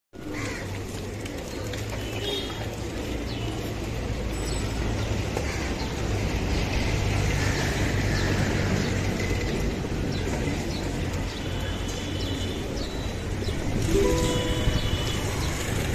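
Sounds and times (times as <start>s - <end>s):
traffic rumble: 0.2s - 15.9s.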